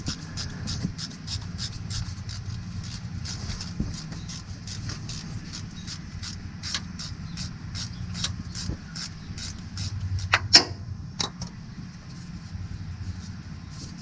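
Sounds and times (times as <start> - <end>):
ratchet wrench clicking: 0.0 - 11.5.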